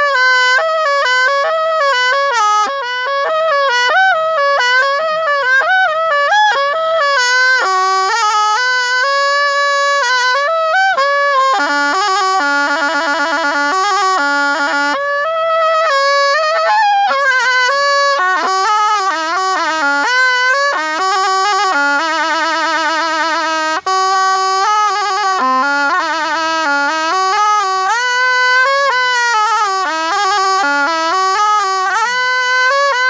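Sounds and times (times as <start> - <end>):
reed oboe melody: 0.0 - 33.0.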